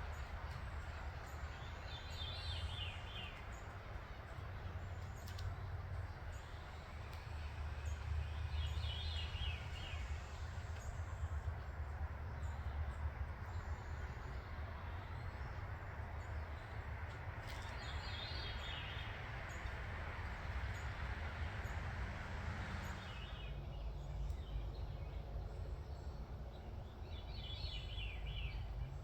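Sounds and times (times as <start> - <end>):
songbird singing: 0.0 - 29.0
steady low rumble: 0.0 - 29.0.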